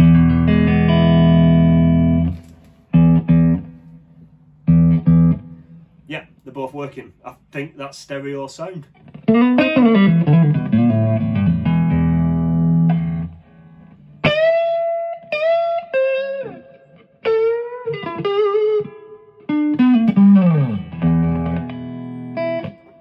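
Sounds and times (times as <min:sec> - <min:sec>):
electric guitar lead phrases: 0:00.0 - 0:06.9, 0:08.5 - 0:23.0.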